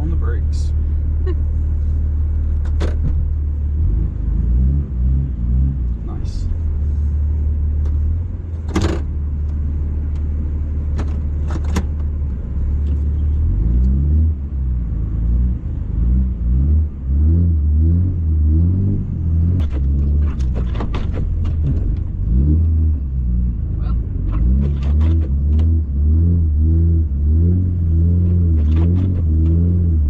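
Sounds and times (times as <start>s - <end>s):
diesel engine revving: 0.0s - 30.0s.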